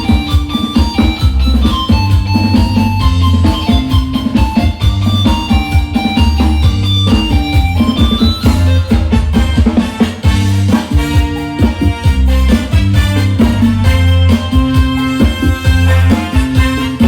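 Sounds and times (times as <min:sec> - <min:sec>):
drums playing: 0:00.0 - 0:17.0
electronic organ melody: 0:00.0 - 0:17.0
pulsing bass line: 0:00.0 - 0:17.0.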